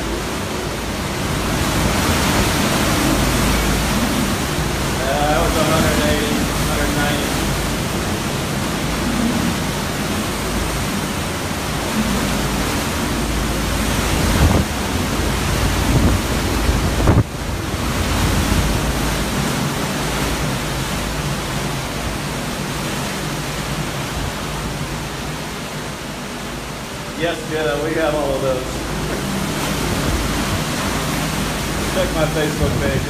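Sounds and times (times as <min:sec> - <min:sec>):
loud rushing wind: 0:00.0 - 0:33.0.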